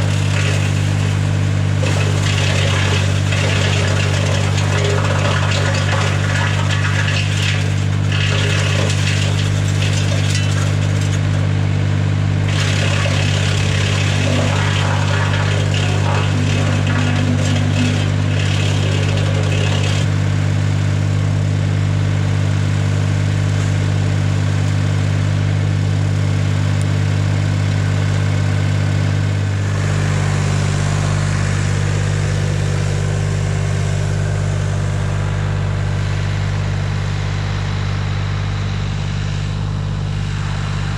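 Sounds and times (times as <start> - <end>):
tractor engine running: 0.0 - 40.9
wood chipper grinding wood: 0.0 - 40.9.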